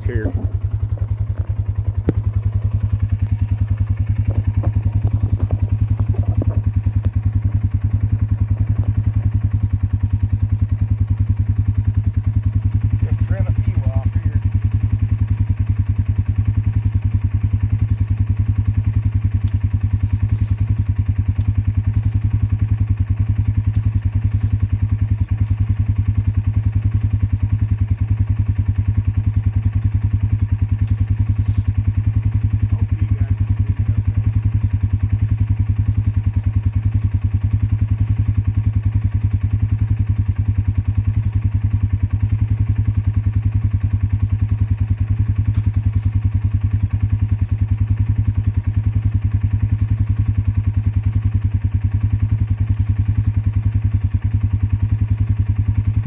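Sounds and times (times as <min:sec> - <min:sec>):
four-wheeler engine idling: 0:00.0 - 0:56.0.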